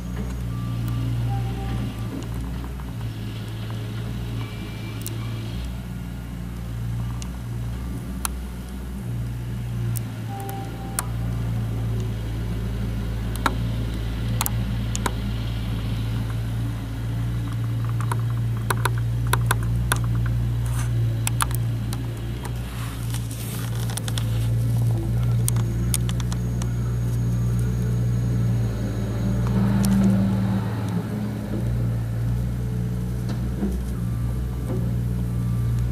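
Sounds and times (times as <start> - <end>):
loader engine running: 0.0 - 35.9.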